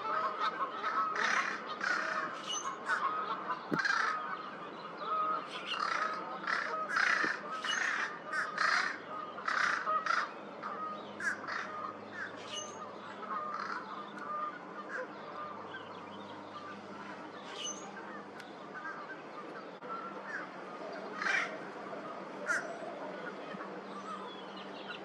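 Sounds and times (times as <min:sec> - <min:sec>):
crow harsh nasal calls: 0:00.0 - 0:25.0
faint bird notes: 0:00.9 - 0:25.0.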